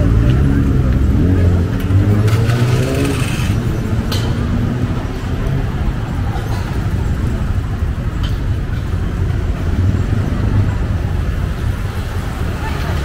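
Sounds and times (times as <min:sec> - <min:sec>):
passing cars and motorbikes: 0:00.0 - 0:13.0.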